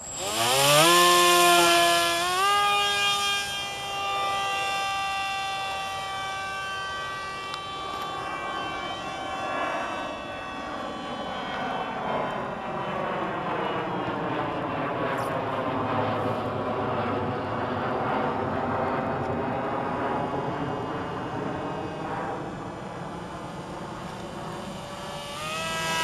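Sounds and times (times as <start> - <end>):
model airplane motor whining: 0.0 - 26.0.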